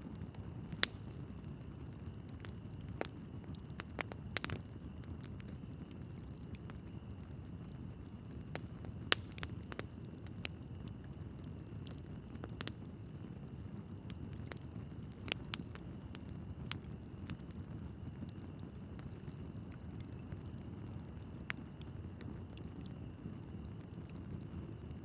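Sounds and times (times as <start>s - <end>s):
fire flames rumbling: 0.0s - 25.0s
logs crackling and popping: 0.2s - 25.0s.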